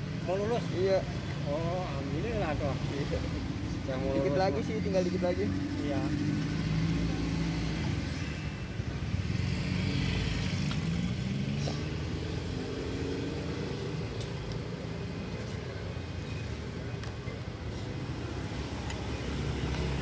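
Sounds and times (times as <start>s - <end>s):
passing vehicle engines: 0.0s - 20.0s.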